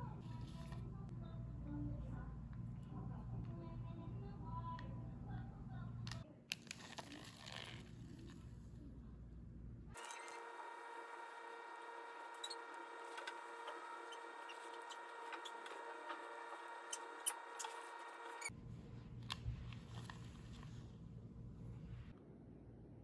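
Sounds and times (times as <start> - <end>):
faint hum: 0.0 - 23.0.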